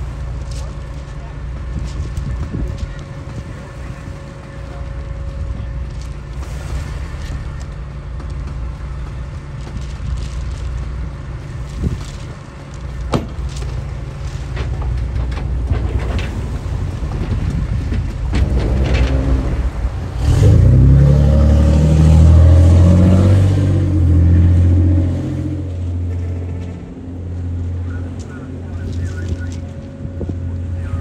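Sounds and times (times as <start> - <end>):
deep diesel engine rumble: 0.0 - 31.0.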